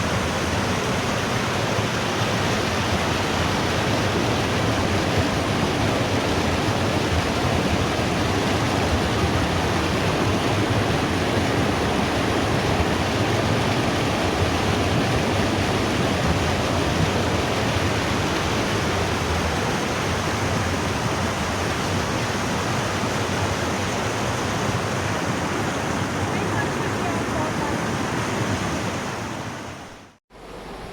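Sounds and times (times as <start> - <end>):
mountain river rushing: 0.0 - 30.9.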